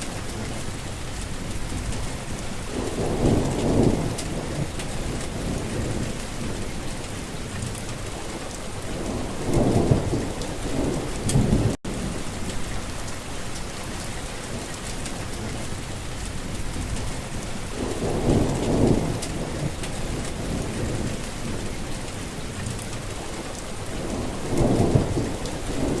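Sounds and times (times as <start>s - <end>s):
steady rain: 0.0s - 26.0s
rolling thunder: 0.1s - 8.2s, 8.8s - 12.6s, 14.5s - 26.0s.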